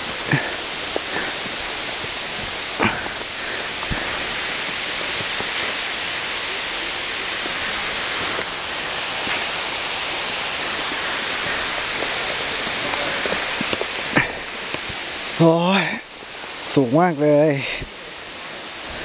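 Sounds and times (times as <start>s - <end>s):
footfalls on dirt trail: 0.0s - 15.4s
waterfall rushing: 0.0s - 19.0s.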